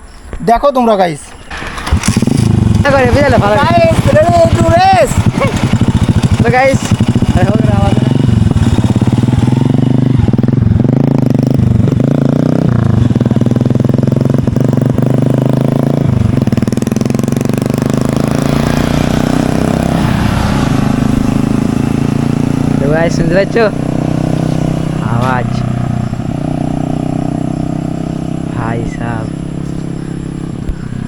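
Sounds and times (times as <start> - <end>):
motorcycle engine accelerating: 1.4 - 31.0.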